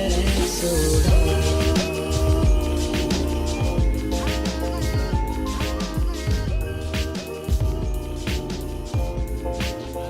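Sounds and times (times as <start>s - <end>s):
song with strong bass and beat: 0.0s - 10.0s.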